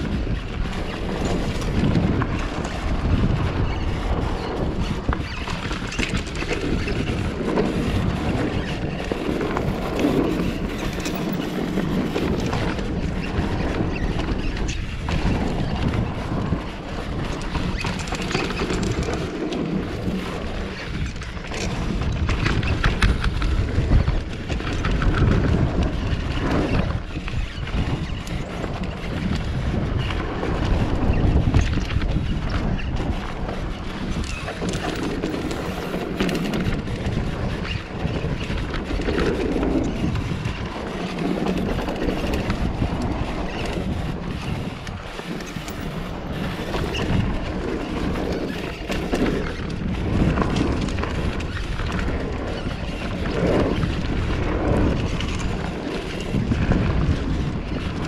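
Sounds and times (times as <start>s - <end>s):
bike clattering over bumps: 0.0s - 58.0s
tyres rumbling over dirt: 0.0s - 58.0s
wind buffeting microphone: 0.0s - 58.0s.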